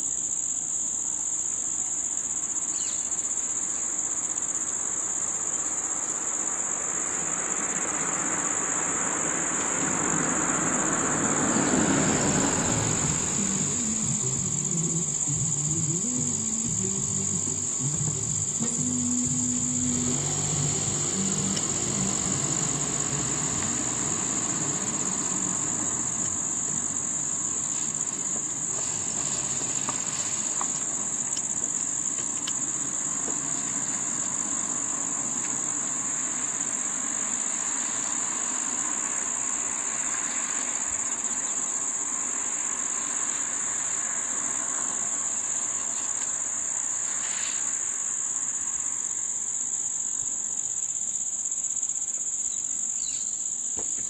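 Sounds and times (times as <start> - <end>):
insect chorus drone: 0.0 - 54.0
passing car hum: 5.9 - 49.4.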